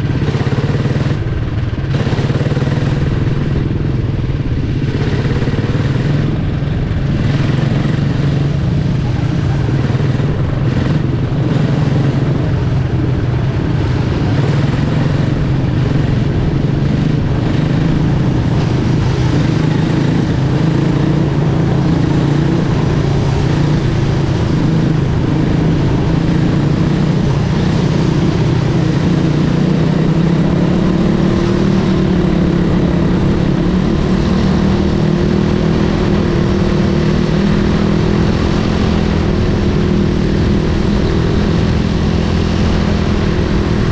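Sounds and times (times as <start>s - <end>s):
four-stroke engine running: 0.0s - 43.9s.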